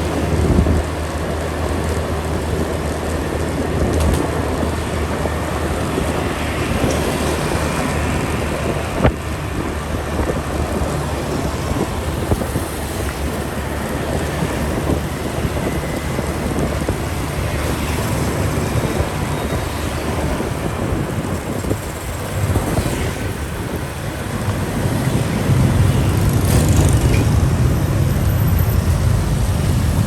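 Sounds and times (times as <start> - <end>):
wind rush on microphone: 0.0 - 30.0
motorcycle engine: 4.1 - 30.0.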